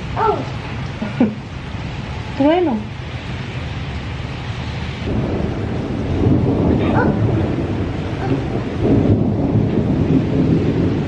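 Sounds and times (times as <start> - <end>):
steady rain: 0.0 - 11.0
thunder rumbling: 0.0 - 11.0.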